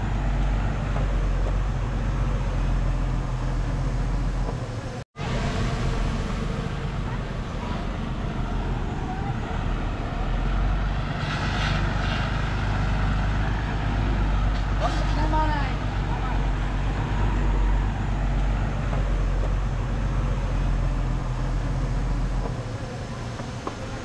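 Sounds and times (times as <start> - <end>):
diesel engine of heavy machinery: 0.0 - 24.0.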